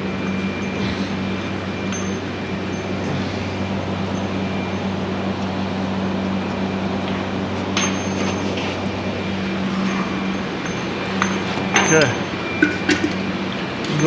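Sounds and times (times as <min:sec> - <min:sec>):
constant low hum: 0:00.0 - 0:14.0
shop heater blowing: 0:00.0 - 0:14.0
metallic clink: 0:00.1 - 0:05.0, 0:06.3 - 0:14.0.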